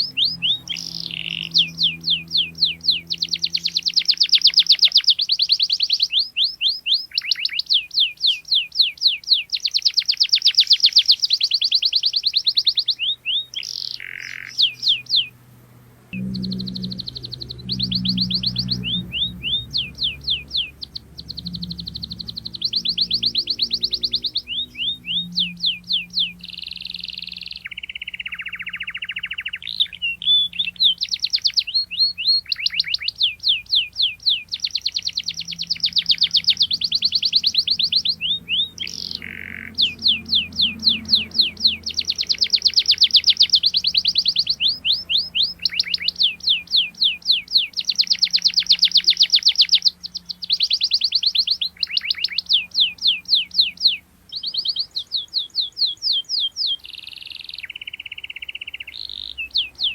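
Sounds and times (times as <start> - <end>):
canary singing: 0.0 - 59.9
faint low hum: 10.8 - 59.9.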